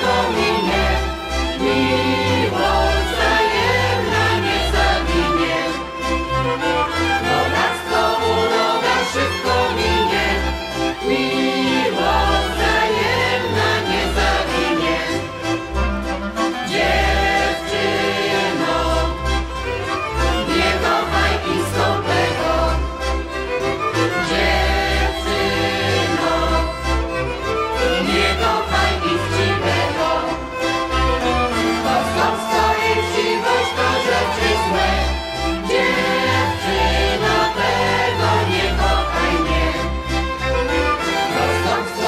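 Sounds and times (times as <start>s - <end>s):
men and women singing: 0.0s - 5.9s, 7.1s - 15.3s, 16.6s - 19.2s, 20.3s - 22.8s, 24.1s - 26.8s, 27.8s - 30.5s, 31.7s - 40.0s, 41.0s - 42.0s
accordion: 0.0s - 42.0s
fiddle: 0.0s - 42.0s.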